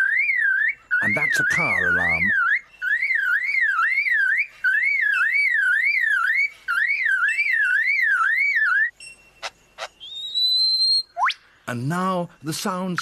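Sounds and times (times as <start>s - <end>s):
bird mimicking car alarm: 0.0s - 11.4s.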